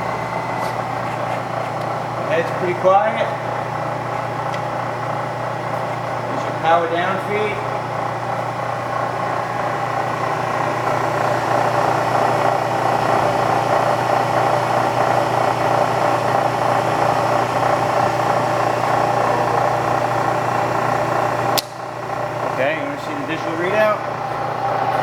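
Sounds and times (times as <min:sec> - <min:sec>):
milling machine motor humming: 0:00.0 - 0:25.0.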